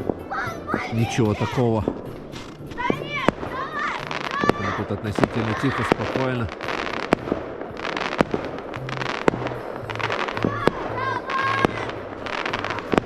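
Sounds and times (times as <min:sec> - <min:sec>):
fireworks bangs and cracks: 0:00.0 - 0:13.0
fireworks crackling: 0:00.0 - 0:13.0.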